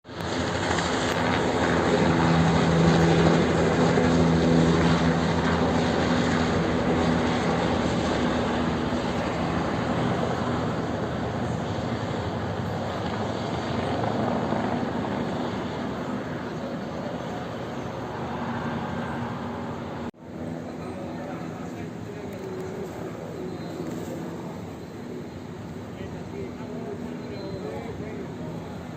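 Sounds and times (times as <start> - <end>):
helicopter rotor drone: 0.1 - 28.9.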